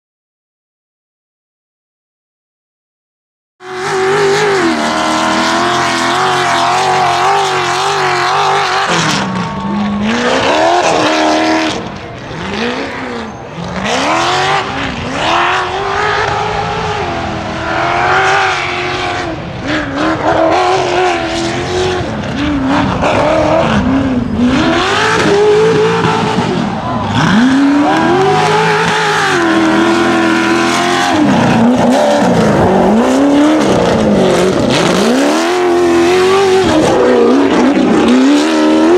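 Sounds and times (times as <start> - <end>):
buggy engine revving: 3.6 - 38.9.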